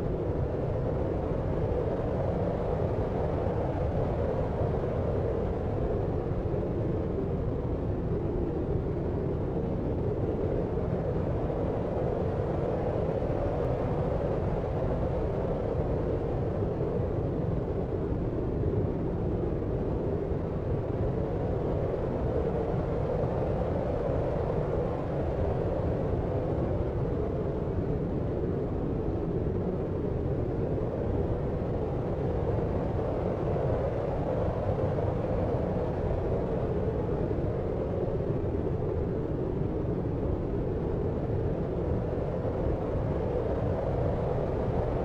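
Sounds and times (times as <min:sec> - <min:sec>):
low rumbling brown noise: 0:00.0 - 0:45.0.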